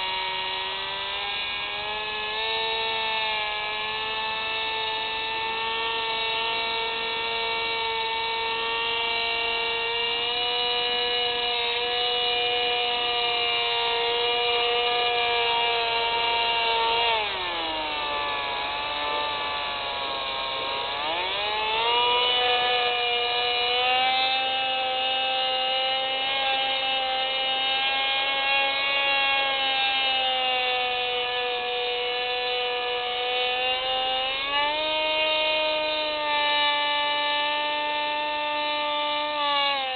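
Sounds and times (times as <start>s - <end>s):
model aircraft motor whining: 0.0s - 39.9s.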